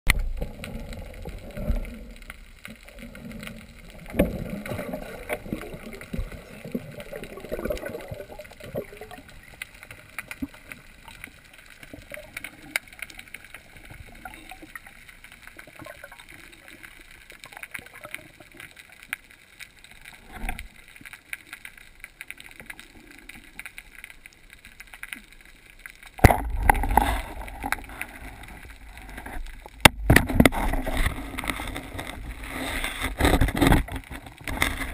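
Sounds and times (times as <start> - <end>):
muffled underwater churning: 0.1 - 21.4, 26.0 - 34.9
faint clicks: 0.1 - 34.9.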